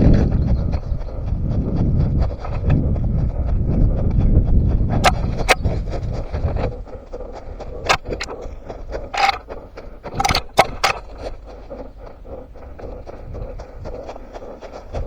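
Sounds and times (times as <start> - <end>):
running footsteps on forest ground: 0.0 - 15.0.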